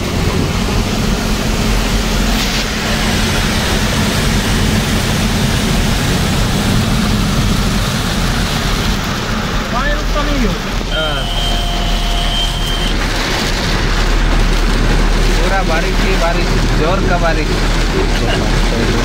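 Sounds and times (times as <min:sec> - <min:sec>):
heavy rain hiss: 0:00.0 - 0:19.0
road noise: 0:00.0 - 0:19.0
vehicle engine drone: 0:00.0 - 0:19.0.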